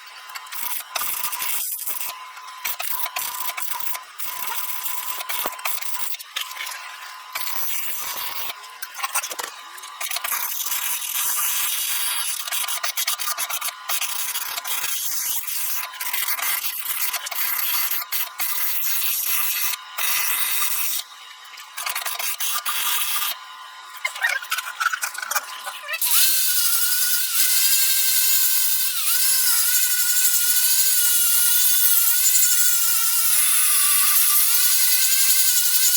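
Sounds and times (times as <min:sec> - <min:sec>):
abrasive tool grinding metal: 0:00.5 - 0:21.0, 0:24.1 - 0:35.9.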